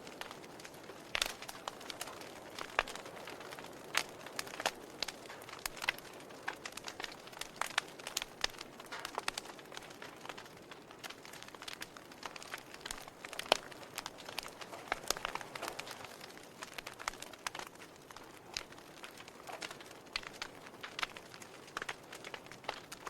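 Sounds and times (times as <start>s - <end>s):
fire hissing: 0.0s - 22.9s
wood fire crackling and popping: 0.0s - 23.0s.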